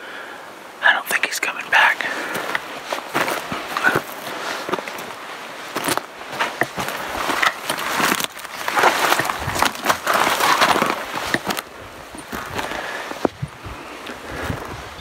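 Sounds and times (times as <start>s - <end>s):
footsteps crunching on rocky trail: 2.0s - 15.0s
gear and clothing rustling: 2.0s - 15.0s.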